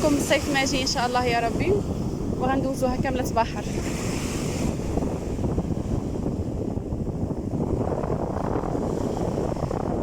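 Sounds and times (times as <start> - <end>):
sea surf: 0.0 - 10.0
wind buffeting microphone: 0.0 - 10.0.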